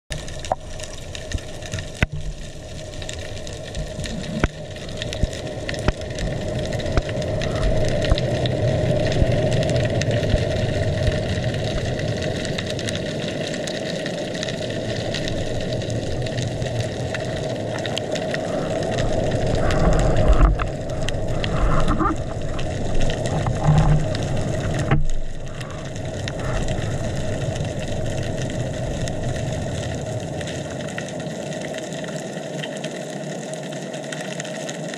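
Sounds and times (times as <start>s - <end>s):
underwater hum and hiss: 0.1s - 34.9s.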